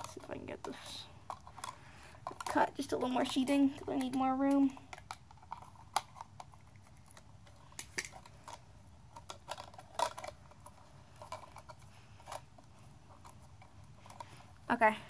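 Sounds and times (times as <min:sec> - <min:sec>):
fingers working wires in plastic box: 0:00.0 - 0:14.2.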